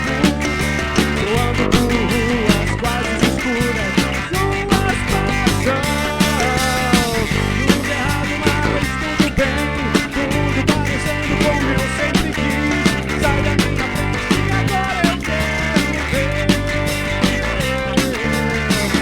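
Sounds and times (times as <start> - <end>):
bass guitar: 0.0 - 19.0
drums: 0.0 - 19.0
electric guitar melody: 0.0 - 19.0.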